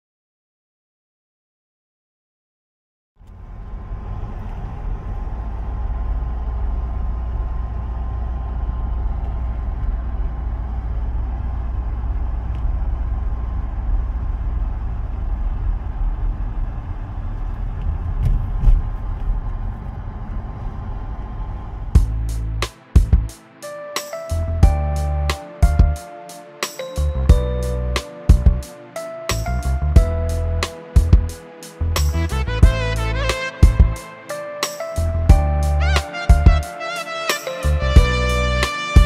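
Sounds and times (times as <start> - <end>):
car engine and tyre rumble: 3.2 - 23.6, 24.3 - 26.0, 27.0 - 28.7, 29.3 - 34.1, 34.8 - 36.7, 37.6 - 38.8.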